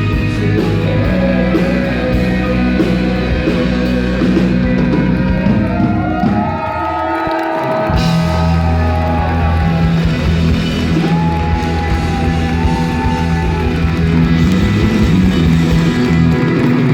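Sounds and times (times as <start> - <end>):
rock band playing live: 0.0 - 16.9.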